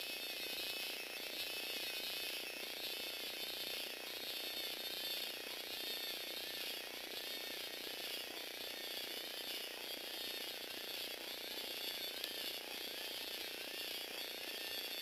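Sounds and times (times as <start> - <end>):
toy robot motor whirring: 0.0 - 15.0.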